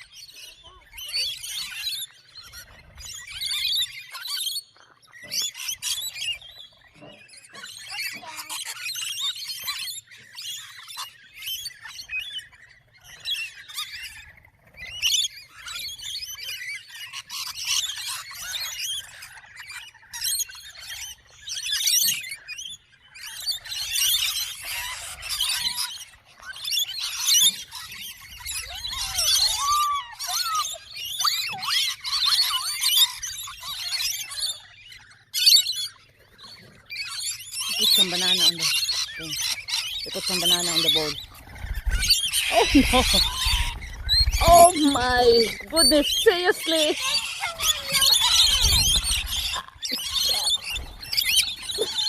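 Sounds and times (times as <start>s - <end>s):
birds chirping and squawking: 0.0s - 52.0s.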